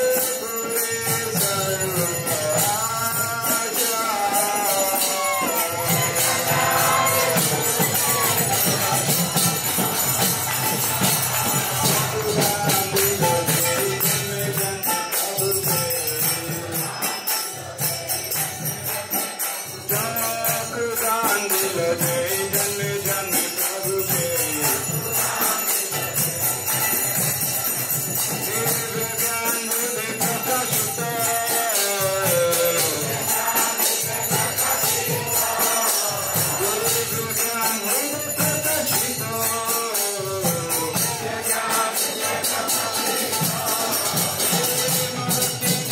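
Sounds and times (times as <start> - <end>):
hand cymbals jingling: 0.0 - 45.9
voices singing a chant: 0.0 - 45.9.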